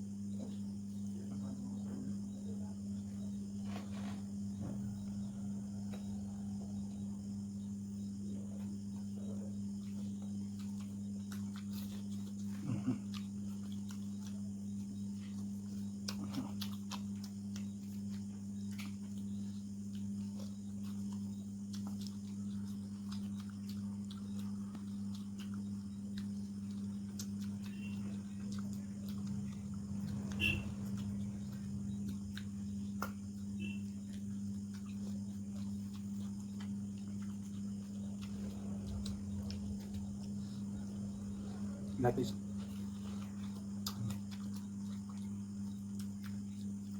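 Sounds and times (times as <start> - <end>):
steady low hum: 0.0 - 46.9
person chewing: 8.0 - 46.9.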